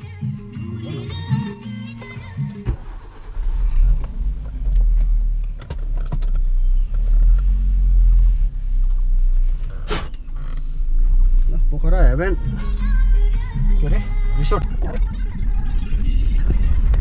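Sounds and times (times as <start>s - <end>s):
car engine starting and idling: 0.0s - 17.0s.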